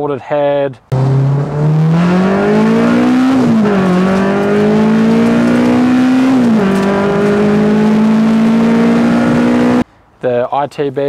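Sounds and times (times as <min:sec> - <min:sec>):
car engine revving hard: 0:00.9 - 0:09.8.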